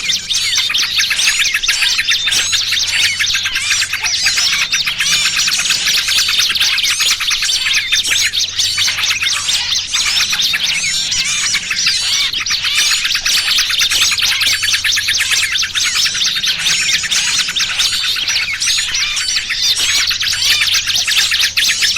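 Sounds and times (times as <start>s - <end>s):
bird alarm calls: 0.0s - 21.9s
small birds chirping: 0.0s - 21.9s.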